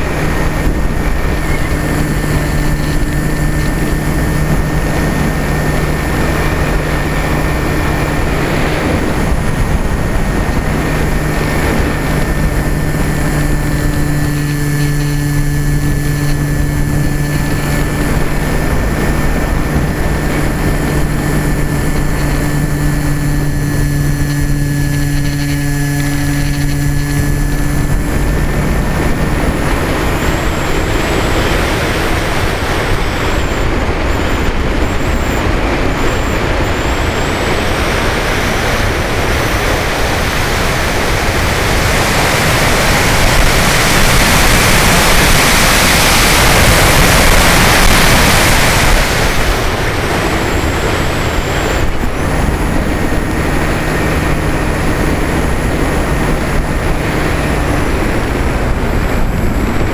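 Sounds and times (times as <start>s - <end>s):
airflow rushing over camera: 0.0s - 59.9s
low steady motor hum: 0.0s - 59.9s.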